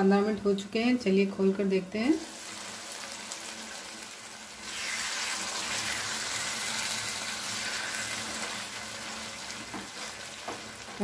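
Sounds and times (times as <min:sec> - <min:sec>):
chutney sizzling in oil: 0:01.5 - 0:11.0.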